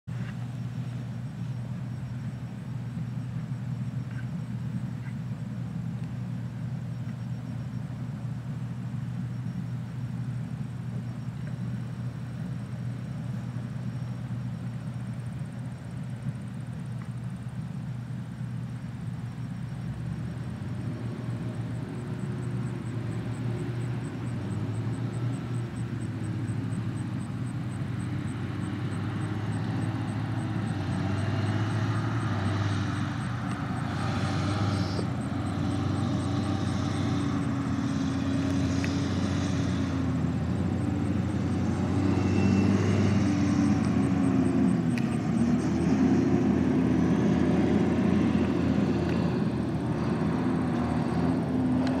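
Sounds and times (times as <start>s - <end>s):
harvester and tractor engines droning: 0.0s - 52.0s.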